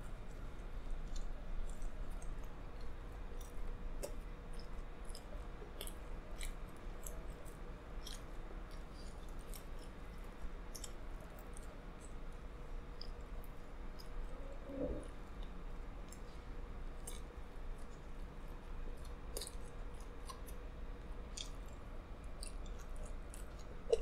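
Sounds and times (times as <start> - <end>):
person chewing pizza: 0.1 - 24.0.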